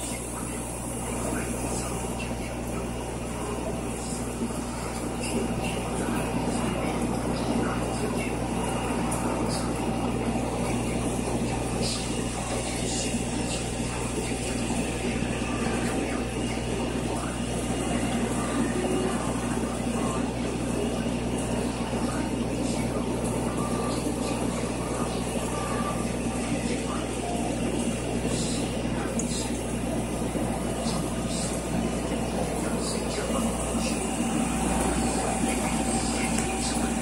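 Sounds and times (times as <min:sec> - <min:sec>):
pump hum: 0:00.0 - 0:37.0.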